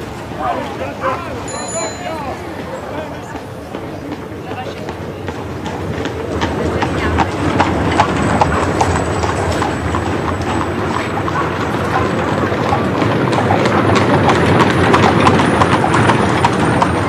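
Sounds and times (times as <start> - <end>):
hooves clip-clopping on pavement: 0.0 - 17.0
street noise: 0.0 - 17.0.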